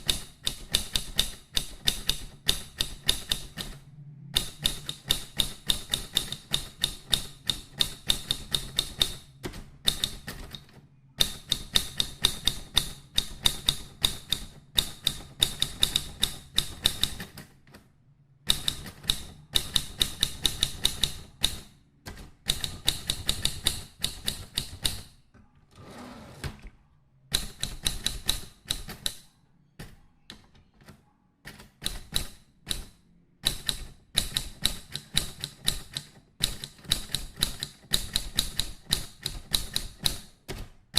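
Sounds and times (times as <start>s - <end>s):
typewriter keystrokes clacking: 0.0s - 3.8s, 4.4s - 17.8s, 18.5s - 25.1s, 27.3s - 40.8s.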